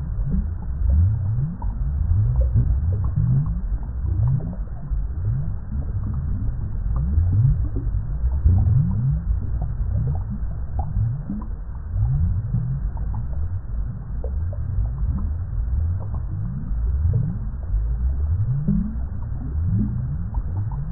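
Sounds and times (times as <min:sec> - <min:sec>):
steady low rumble: 0:00.0 - 0:20.9
water bubbling: 0:00.0 - 0:20.9.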